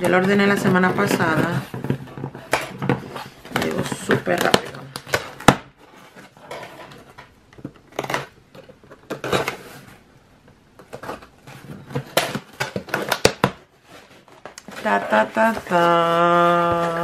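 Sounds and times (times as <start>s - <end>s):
cardboard and tape rustling: 0.0s - 10.1s, 10.8s - 17.0s.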